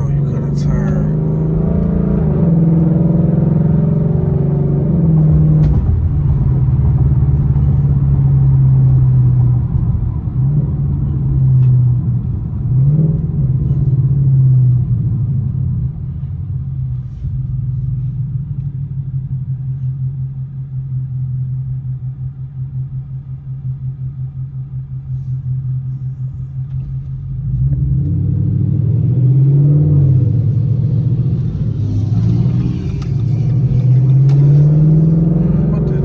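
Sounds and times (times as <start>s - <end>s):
car engine with loud exhaust: 0.0s - 36.0s.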